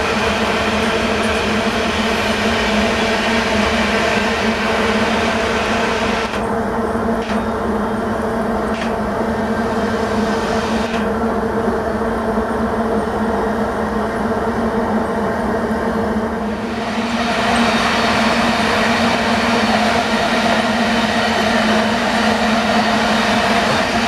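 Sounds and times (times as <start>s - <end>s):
freight train rumbling on track: 0.0s - 24.0s.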